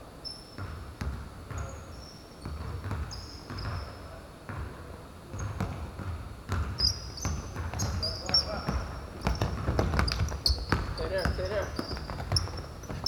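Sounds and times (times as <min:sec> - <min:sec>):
basketball bouncing: 0:00.6 - 0:01.8, 0:02.4 - 0:03.9, 0:04.5 - 0:13.0.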